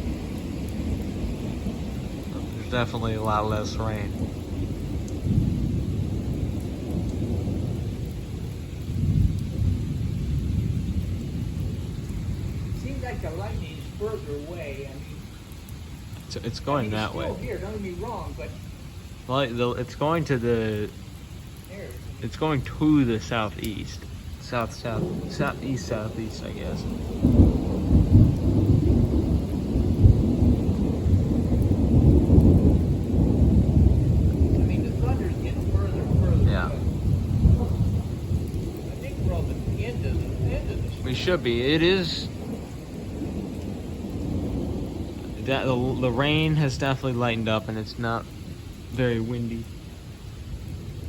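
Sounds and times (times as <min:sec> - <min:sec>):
light rain patter: 0:00.0 - 0:51.0
thunder rumbling: 0:00.0 - 0:51.0.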